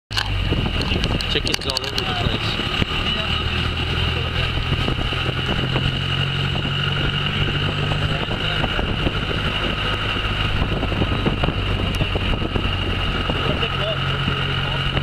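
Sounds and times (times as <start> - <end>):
high whine: 0.1 - 15.0
road and wind noise: 0.1 - 15.0
vehicle engine running: 0.1 - 15.0.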